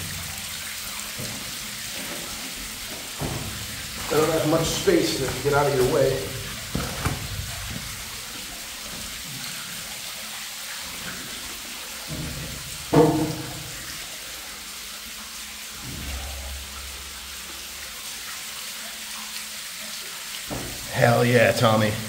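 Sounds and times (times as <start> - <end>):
water trickling and splashing: 0.0 - 22.0.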